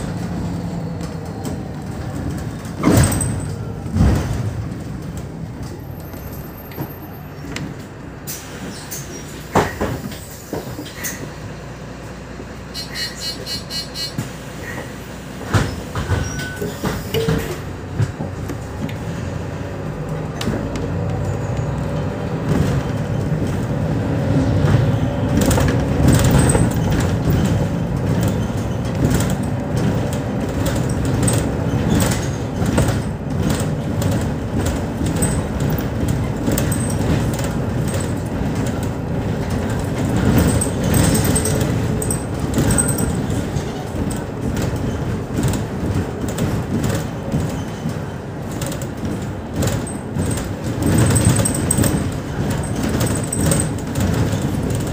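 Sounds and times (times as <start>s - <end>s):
bus body knocking and rattling: 0.0s - 54.9s
bus diesel engine: 0.0s - 54.9s
road rumble: 0.0s - 54.9s.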